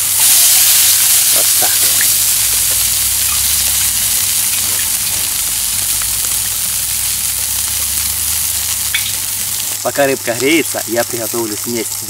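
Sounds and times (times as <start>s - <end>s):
fish sizzling on a grill: 0.0s - 12.0s.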